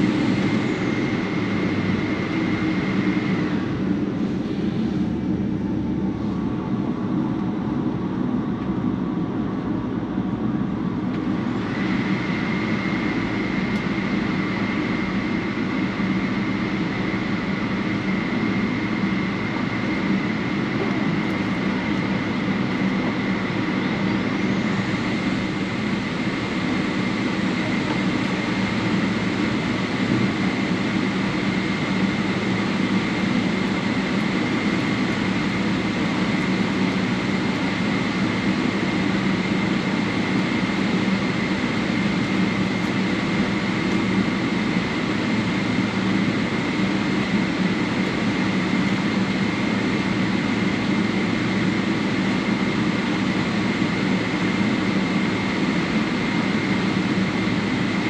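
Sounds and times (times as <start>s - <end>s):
airplane cabin air rush: 0.0s - 8.4s, 11.2s - 58.0s
low engine hum: 0.0s - 51.2s
jet engine high whine: 0.0s - 58.0s.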